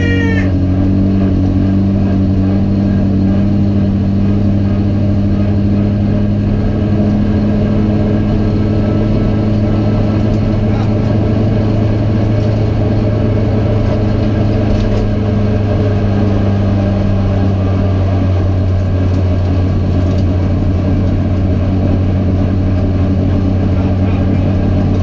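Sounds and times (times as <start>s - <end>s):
race car engine running: 0.0s - 25.0s
road and wind noise: 0.0s - 25.0s.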